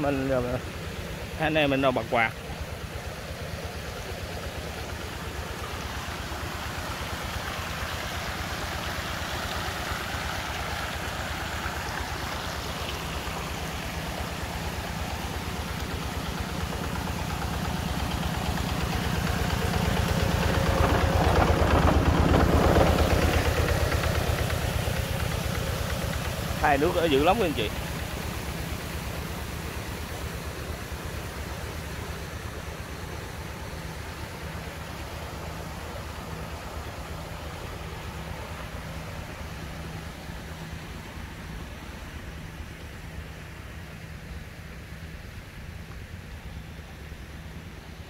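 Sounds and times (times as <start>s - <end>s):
aerator motor drone: 0.0s - 43.2s
water splashing and churning: 0.0s - 48.0s.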